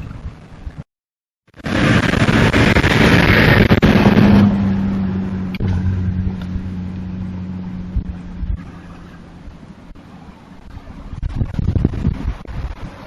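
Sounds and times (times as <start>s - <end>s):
truck passing close by: 1.6s - 13.0s.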